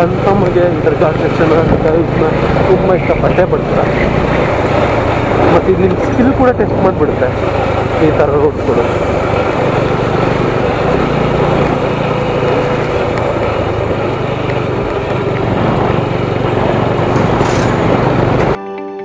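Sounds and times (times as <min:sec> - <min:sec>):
motorcycle engine running: 0:00.0 - 0:18.6
road and wind noise: 0:00.0 - 0:18.6.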